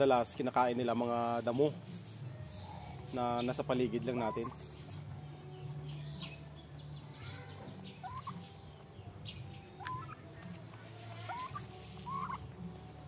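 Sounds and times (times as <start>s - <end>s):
turkeys calling: 0.9s - 13.0s.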